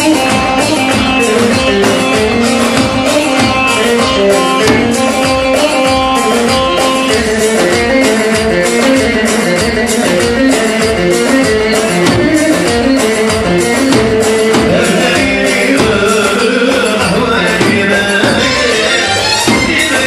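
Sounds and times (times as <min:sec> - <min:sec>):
plucked string melody: 0:00.0 - 0:20.0
steady drum beat: 0:00.0 - 0:20.0.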